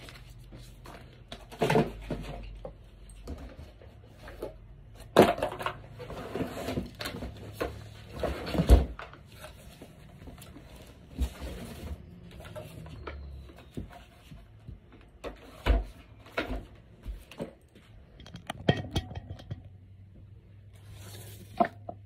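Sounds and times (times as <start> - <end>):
plastic parts and packaging rattling: 0.0 - 20.0.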